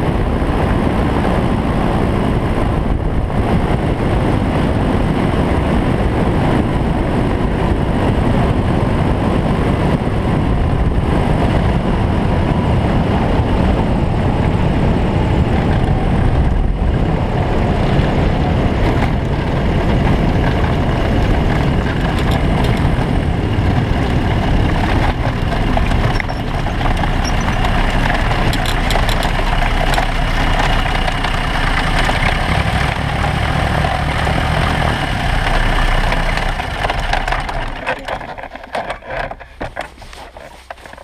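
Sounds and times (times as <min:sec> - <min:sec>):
microlight engine and propeller: 0:00.0 - 0:41.0.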